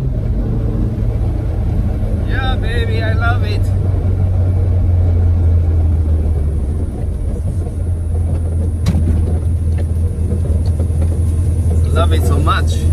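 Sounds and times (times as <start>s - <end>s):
car engine drone from inside cabin: 0.0s - 12.9s.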